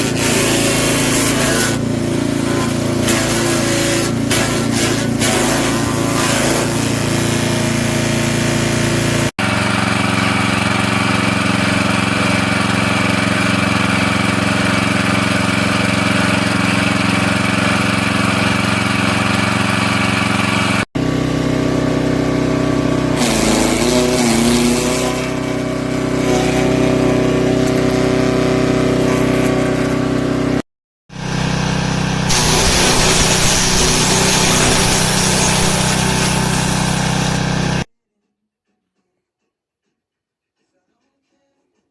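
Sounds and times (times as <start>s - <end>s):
wood chipper engine running: 0.0s - 37.9s.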